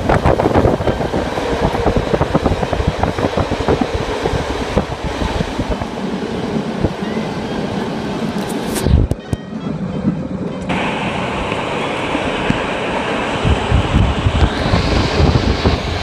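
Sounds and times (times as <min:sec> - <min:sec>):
train rumble: 0:00.0 - 0:16.0
wheels clacking on rails: 0:00.0 - 0:16.0.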